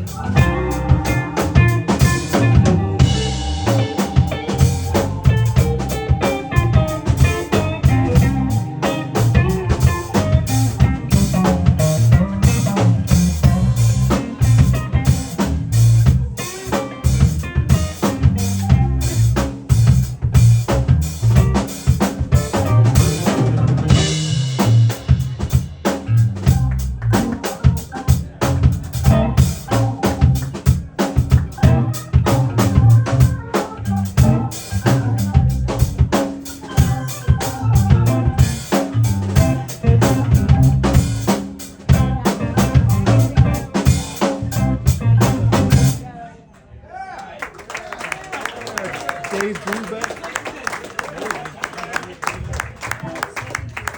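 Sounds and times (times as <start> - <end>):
drum kit beat: 0.0 - 46.0
keyboard melody: 0.0 - 46.2.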